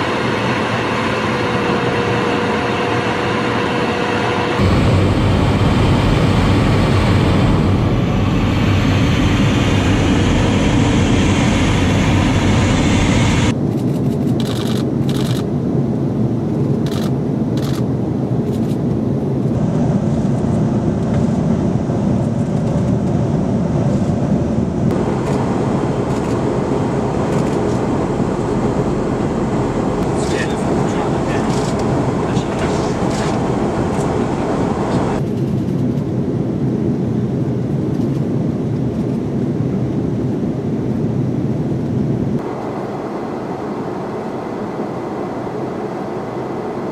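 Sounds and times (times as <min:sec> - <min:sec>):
jet engines rumbling: 0:00.0 - 0:46.9.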